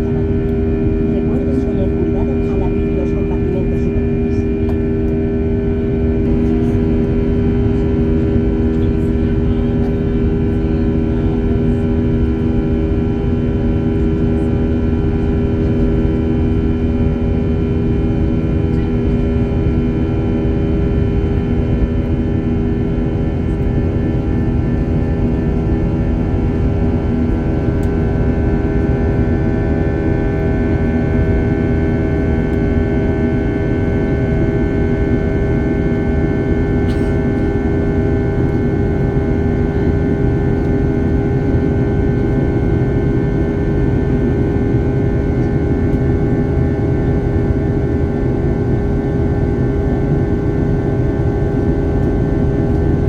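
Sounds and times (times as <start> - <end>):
steady droning tones: 0.0 - 49.9
jet engines and airflow rumble: 0.0 - 53.0.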